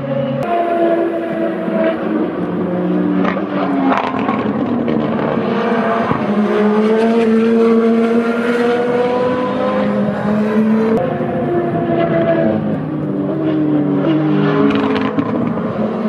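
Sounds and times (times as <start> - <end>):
race car engines at speed: 0.0 - 16.0.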